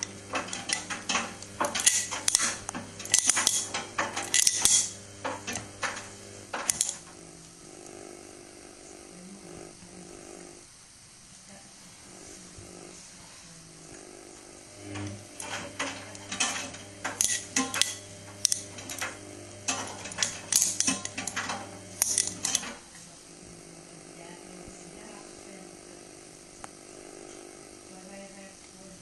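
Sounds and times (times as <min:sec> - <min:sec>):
washing machine motor hum: 0:00.0 - 0:29.0.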